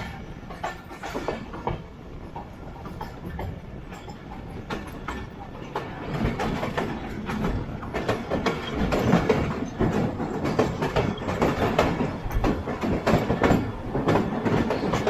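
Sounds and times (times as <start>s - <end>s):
steady train rumble: 0.0s - 15.0s
train wheels clattering over joints: 0.0s - 15.0s.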